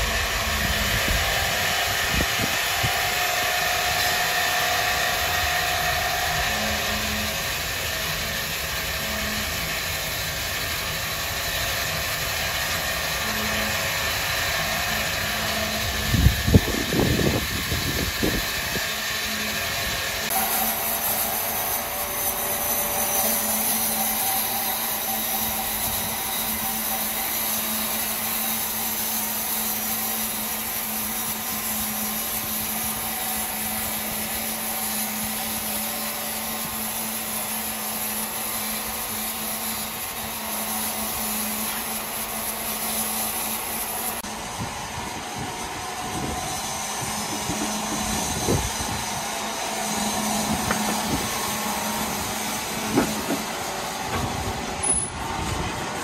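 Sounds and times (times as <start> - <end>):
powered wood saw running: 0.0 - 56.0.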